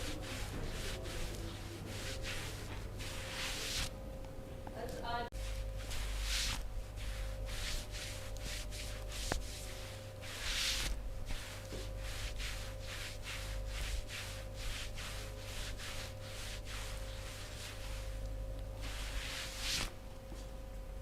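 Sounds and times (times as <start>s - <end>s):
hands rubbing over skin: 0.0s - 3.9s, 5.3s - 18.2s, 18.8s - 19.9s
low electrical hum: 0.0s - 21.0s.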